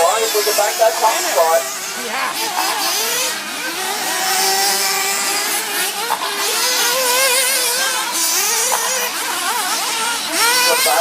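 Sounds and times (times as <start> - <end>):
rc buggies revving and whining: 0.0 - 11.0.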